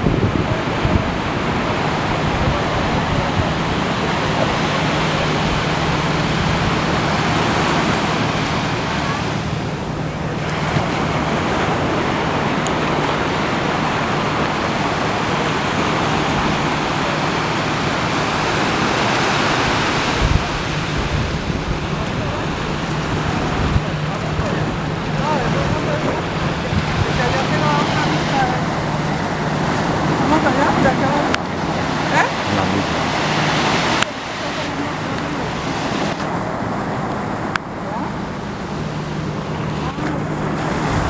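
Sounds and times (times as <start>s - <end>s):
wind on microphone: 0.0s - 37.0s
ocean waves breaking: 0.0s - 41.0s.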